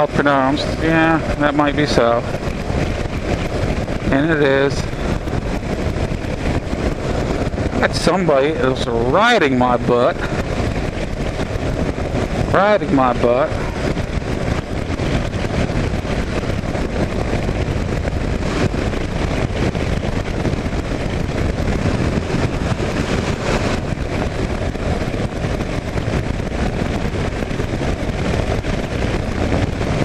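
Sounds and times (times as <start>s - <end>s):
motorcycle engine running: 0.0s - 30.0s
wind rushing over microphone: 0.0s - 30.0s.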